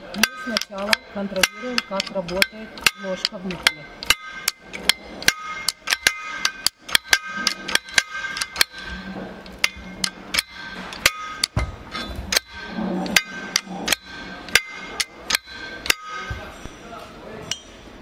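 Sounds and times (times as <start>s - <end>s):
sharp metallic clicks and taps: 0.0s - 16.8s.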